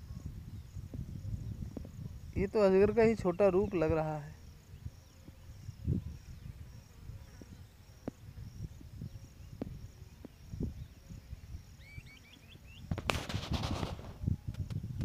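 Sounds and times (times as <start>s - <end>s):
faint insect chirping: 0.0s - 15.0s.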